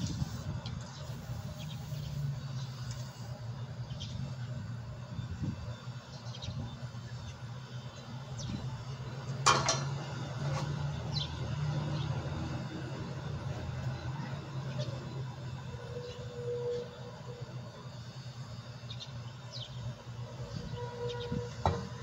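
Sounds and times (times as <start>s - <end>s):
compressors humming: 0.0s - 22.0s.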